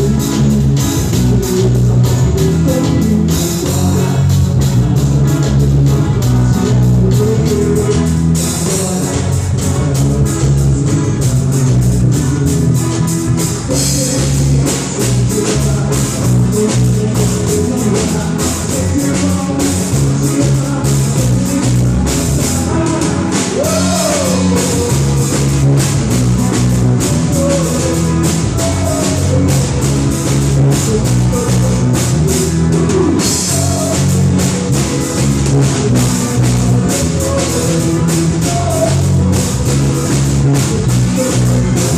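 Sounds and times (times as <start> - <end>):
person singing: 0.0 - 41.9
rock band playing: 0.0 - 41.9.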